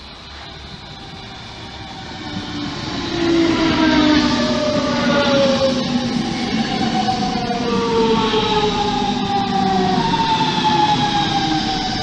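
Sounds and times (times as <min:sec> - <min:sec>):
electric train drive whining: 0:00.0 - 0:12.0
train wheels rumbling on rail: 0:00.0 - 0:12.0.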